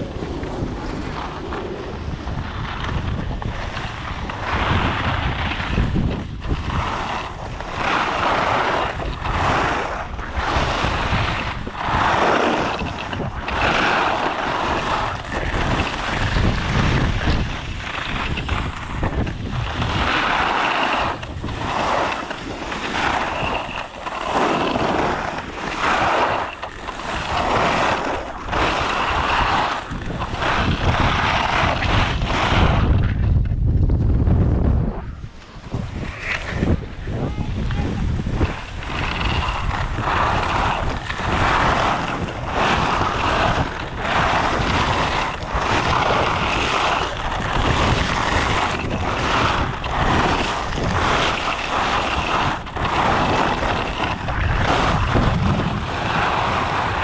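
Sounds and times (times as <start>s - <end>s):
skis scraping on hard snow: 0.0s - 57.0s
wind buffeting microphone: 0.0s - 57.0s.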